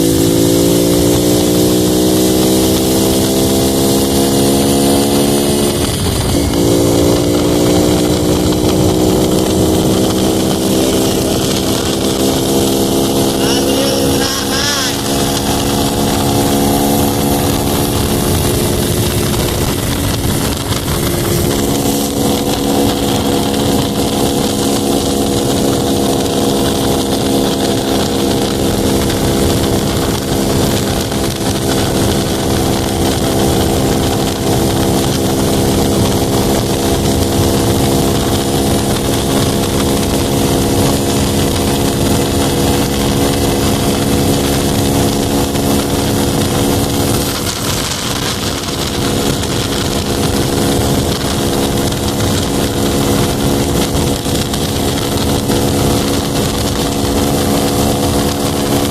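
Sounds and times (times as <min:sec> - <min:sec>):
motorcycle engine running: 0:00.0 - 0:58.9
rushing wind noise: 0:00.0 - 0:58.9.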